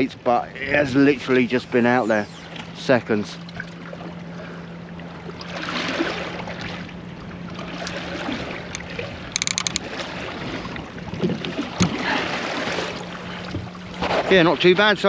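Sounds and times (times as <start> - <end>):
steady low hum: 0.0 - 14.0
water lapping against boat hull: 0.4 - 15.0.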